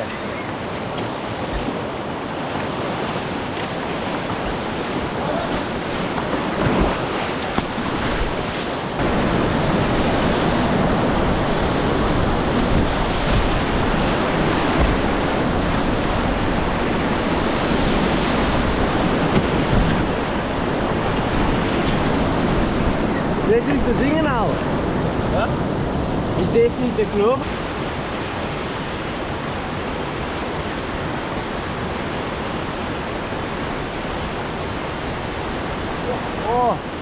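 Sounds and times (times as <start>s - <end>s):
whitewater rushing: 0.0s - 37.0s.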